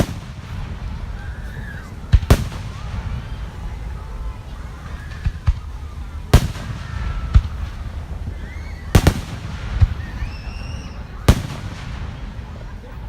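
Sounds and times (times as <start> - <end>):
fireworks bangs: 0.0 - 13.0
low steady rumble: 0.0 - 13.0.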